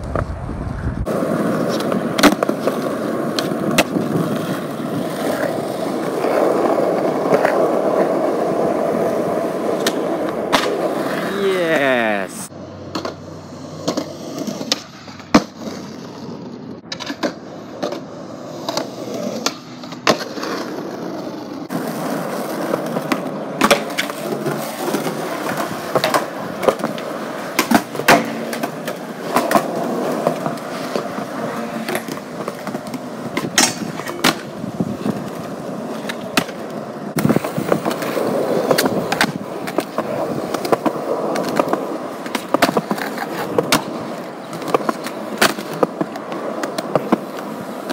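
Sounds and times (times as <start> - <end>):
skateboard wheels rolling on concrete: 0.0 - 47.9
skateboard deck clacking: 1.0 - 11.3, 12.8 - 47.9.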